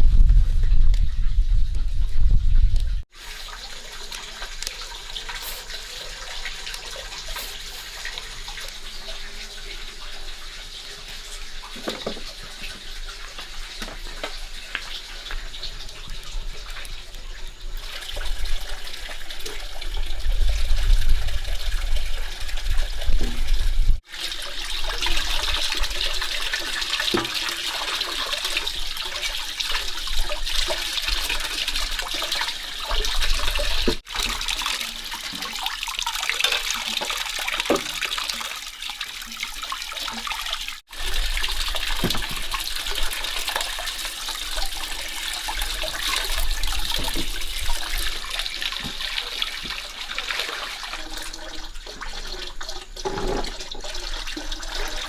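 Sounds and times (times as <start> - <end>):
running water rushing: 3.0 - 55.0.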